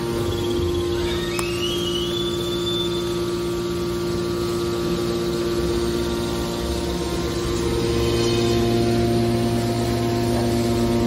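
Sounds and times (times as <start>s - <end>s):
high whine: 0.0s - 11.0s
hydraulic pump motor humming: 0.0s - 11.0s.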